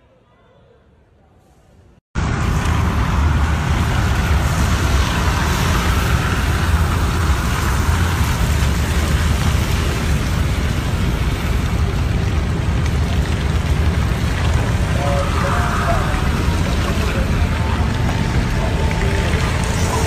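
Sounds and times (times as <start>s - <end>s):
rain hiss: 2.2s - 20.0s.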